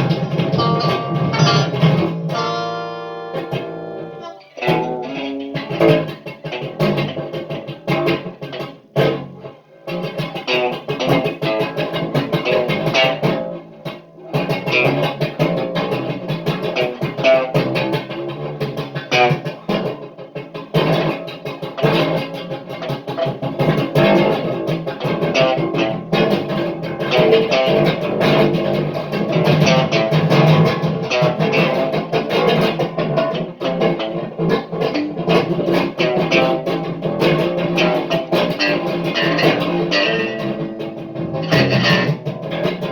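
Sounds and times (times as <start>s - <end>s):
guitar quick plucked notes: 0.0s - 42.9s.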